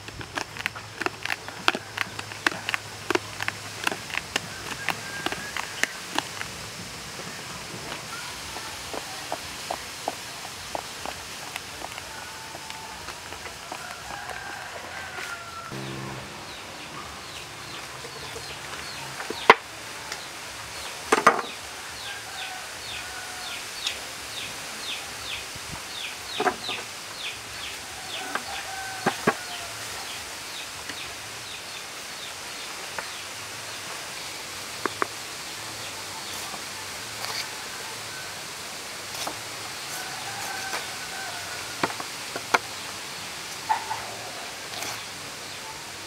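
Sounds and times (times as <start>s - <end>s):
birds calling: 0.0s - 38.4s, 39.2s - 46.0s.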